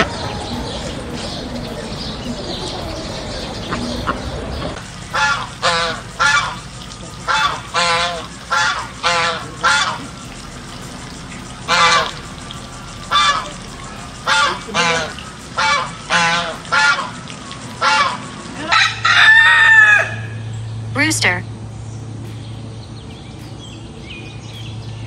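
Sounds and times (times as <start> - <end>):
geese honking: 0.0 - 20.5.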